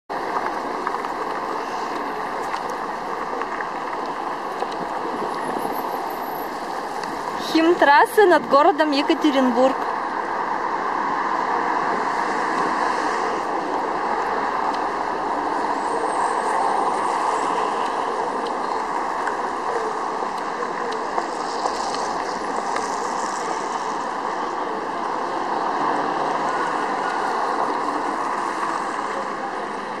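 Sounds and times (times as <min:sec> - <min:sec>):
city traffic passing: 0:00.1 - 0:30.0.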